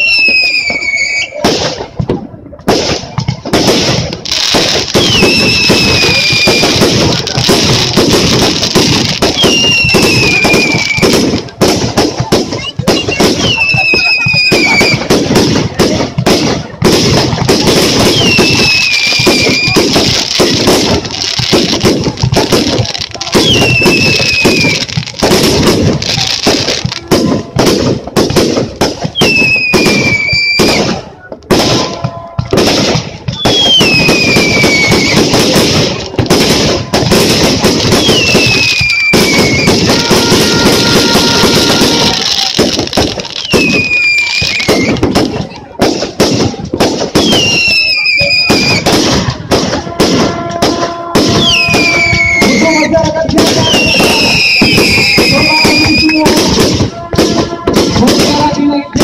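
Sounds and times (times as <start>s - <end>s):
falling firework whistle: 0.0s - 1.9s, 4.6s - 11.5s, 12.2s - 15.9s, 17.4s - 27.4s, 29.0s - 45.6s, 46.4s - 59.0s
fireworks crackling: 0.0s - 59.0s.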